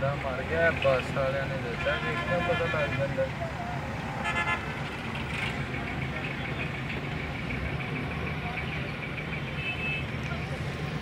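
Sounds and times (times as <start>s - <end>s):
vehicle engines idling in traffic: 0.0s - 11.0s.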